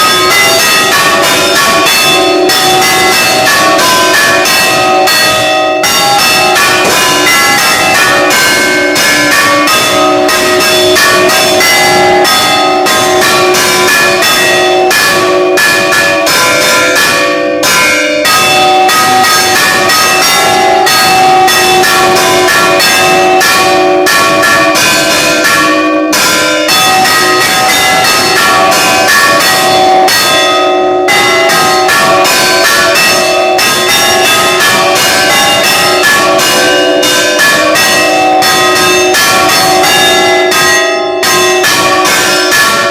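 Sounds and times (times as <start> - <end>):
church bell ringing rapidly: 0.0 - 42.9.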